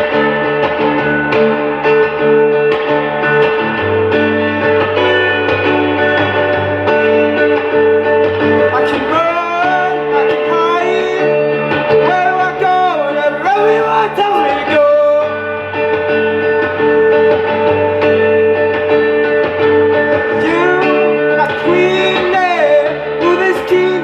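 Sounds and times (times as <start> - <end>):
bending lead guitar line: 0.0 - 24.0
guitar chords: 0.0 - 24.0.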